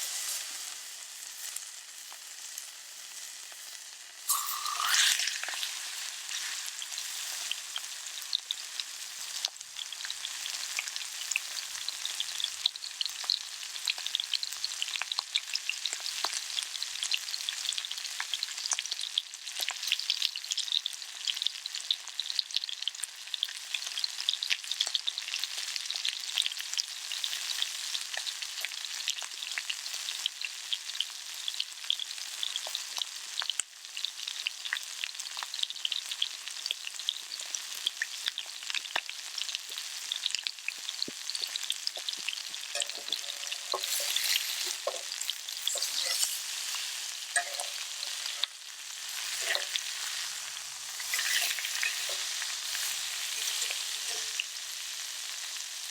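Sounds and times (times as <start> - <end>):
food sizzling in a skillet: 0.0 - 55.9.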